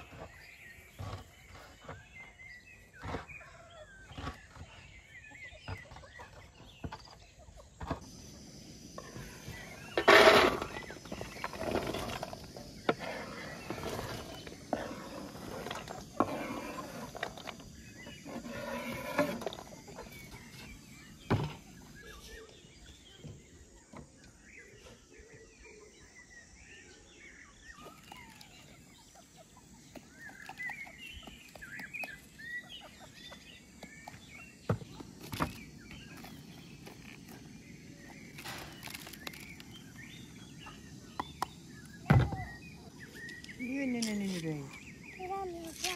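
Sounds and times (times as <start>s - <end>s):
chicken and bird calls: 0.0s - 45.9s.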